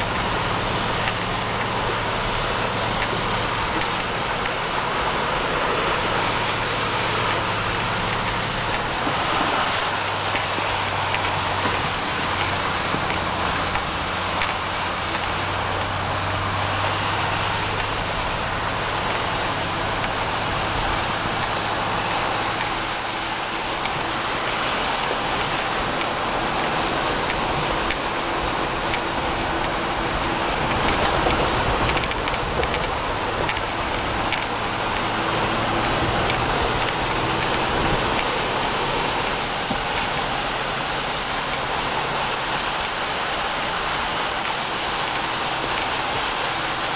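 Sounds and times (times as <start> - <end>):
engine humming low: 0.0 - 46.9
muddy water spraying and sloshing: 0.0 - 46.9.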